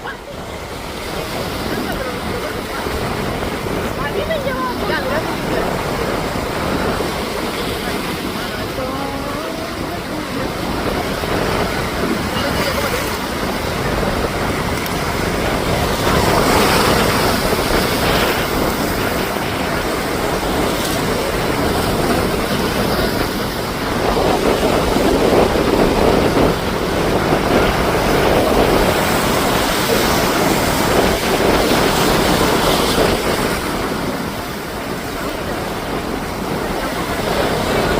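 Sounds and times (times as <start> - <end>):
ocean waves breaking: 0.0 - 37.9
wind buffeting microphone: 0.0 - 37.9.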